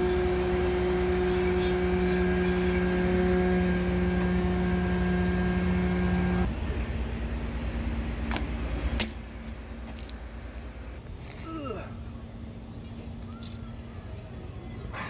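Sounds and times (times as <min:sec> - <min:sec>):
hydraulic crane humming: 0:00.0 - 0:15.0.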